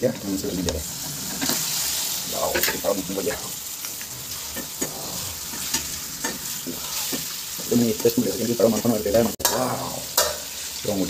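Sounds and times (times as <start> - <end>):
meat sizzling in hot oil: 0.0 - 11.0
metal spatula scraping a pan: 0.9 - 10.8.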